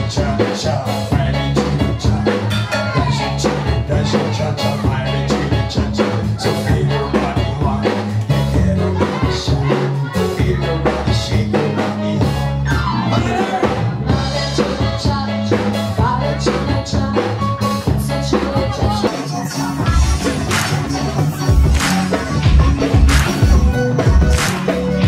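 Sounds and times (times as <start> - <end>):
bass line: 0.0 - 25.0
drum kit beat: 0.0 - 25.0
loud dance music: 0.0 - 25.0.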